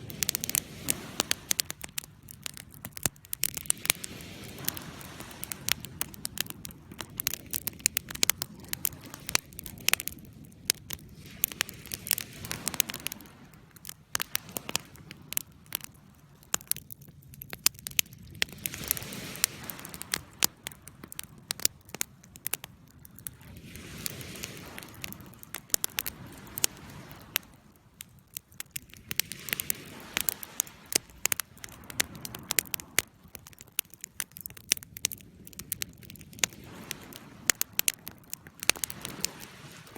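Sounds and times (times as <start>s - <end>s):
campfire crackling and popping: 0.0s - 39.9s
low rush of flame: 0.0s - 39.9s.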